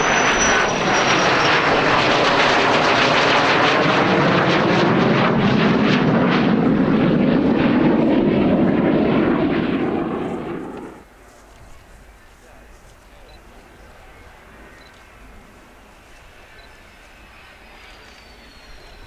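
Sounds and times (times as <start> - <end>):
jet engine roar: 0.0 - 11.1, 13.6 - 19.0.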